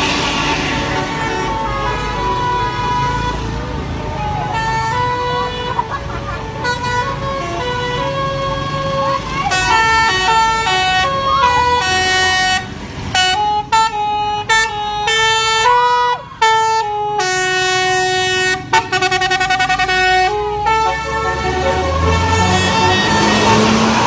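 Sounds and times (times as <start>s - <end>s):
bus engine rumble: 0.0s - 24.0s
bus horn playing melody: 0.0s - 24.0s.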